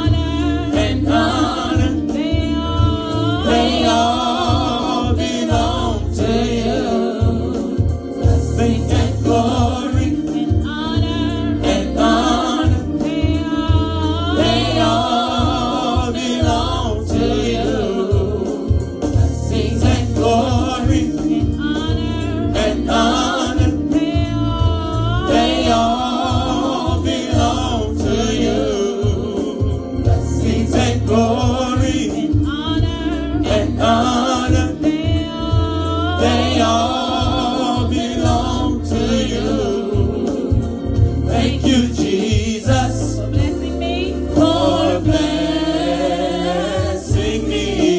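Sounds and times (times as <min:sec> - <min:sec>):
group singing gospel: 0:00.0 - 0:47.9
steady bass accompaniment: 0:00.0 - 0:47.9.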